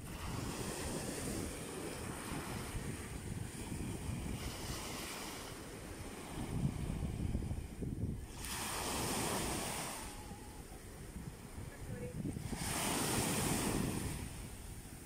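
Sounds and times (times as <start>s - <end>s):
small waves breaking on sand: 0.0s - 15.0s
surf hissing up the sand: 0.0s - 15.0s
wind rumble on microphone: 0.0s - 15.0s.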